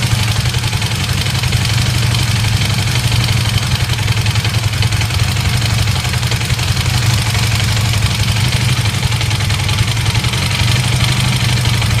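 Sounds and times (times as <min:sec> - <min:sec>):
engine rattle: 0:00.0 - 0:12.0
motorcycle engine idling: 0:00.0 - 0:12.0.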